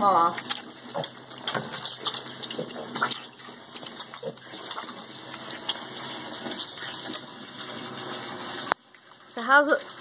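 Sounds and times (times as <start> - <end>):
piglets sucking and slurping: 0.0 - 10.0.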